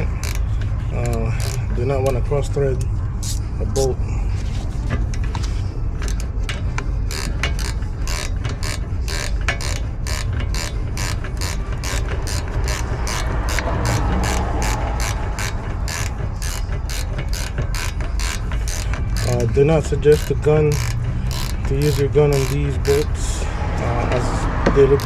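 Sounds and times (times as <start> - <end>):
hand ratchet clicking: 0.0 - 3.9, 4.5 - 25.0.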